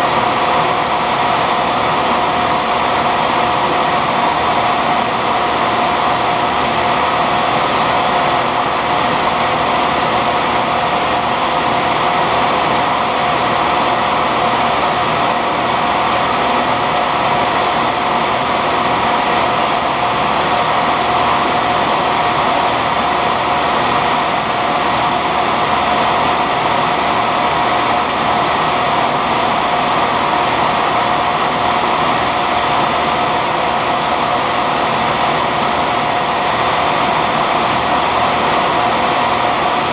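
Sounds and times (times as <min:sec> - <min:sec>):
lathe motor whine: 0:00.0 - 0:39.9.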